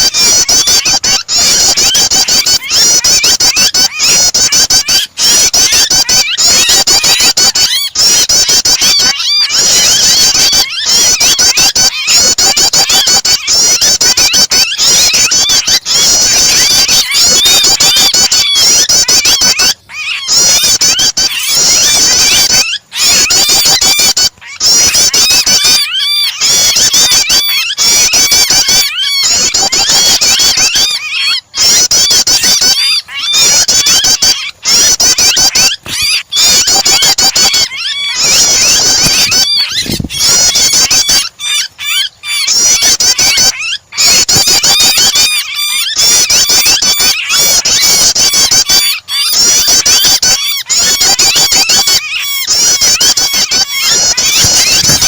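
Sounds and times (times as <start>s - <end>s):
bird distress calls: 0.0s - 55.0s
birds chirping and trilling: 0.0s - 55.0s.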